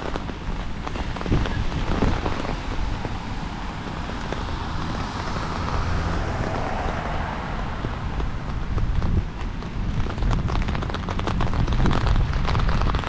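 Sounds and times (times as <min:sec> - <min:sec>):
rain on street: 0:00.0 - 0:13.0
traffic on wet road: 0:00.0 - 0:13.0
wind rumble on microphone: 0:00.0 - 0:13.0.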